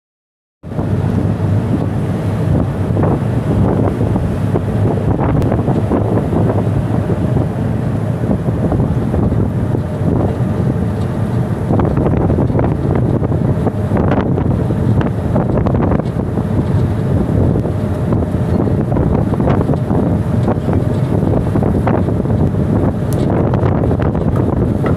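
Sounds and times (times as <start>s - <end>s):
waves rushing along hull: 0.6s - 24.9s
wind buffeting microphone: 0.6s - 24.9s.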